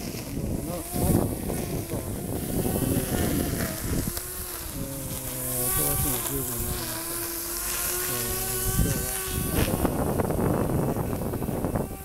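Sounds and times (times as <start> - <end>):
brush cutter engine running: 0.0 - 12.0.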